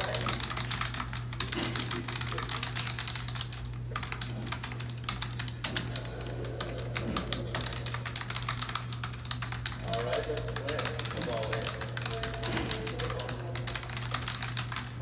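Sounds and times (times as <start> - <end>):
computer keyboard typing: 0.0 - 15.0
steady low hum: 0.0 - 15.0.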